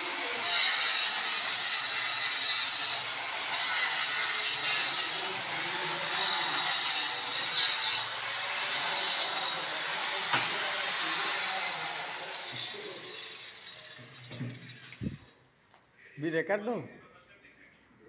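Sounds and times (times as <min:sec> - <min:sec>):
power cutter grinding masonry: 0:00.0 - 0:15.2.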